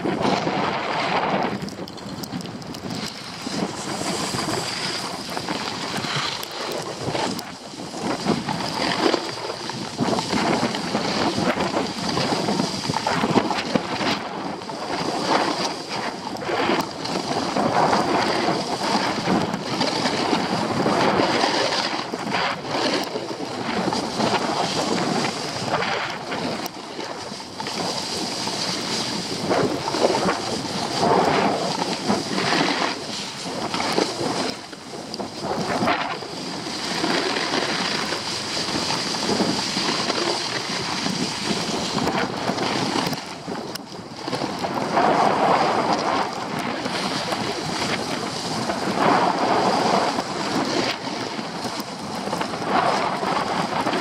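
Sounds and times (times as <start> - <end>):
skis scraping over snow: 0.0 - 54.0
wind rushing over microphone: 0.0 - 54.0.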